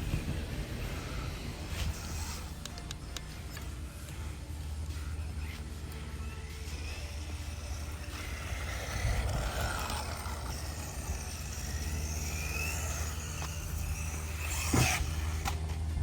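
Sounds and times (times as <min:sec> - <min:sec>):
rc truck motor whining: 0:00.0 - 0:16.0
steady low rumble: 0:00.0 - 0:16.0.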